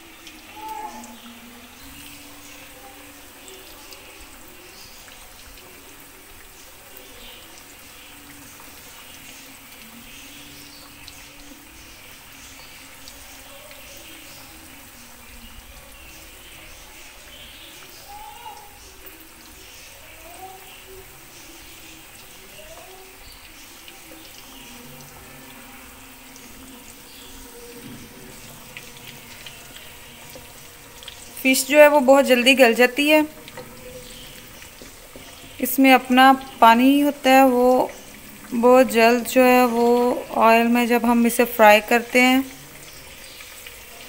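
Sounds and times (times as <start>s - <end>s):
fish sizzling in hot oil: 0.0s - 44.0s.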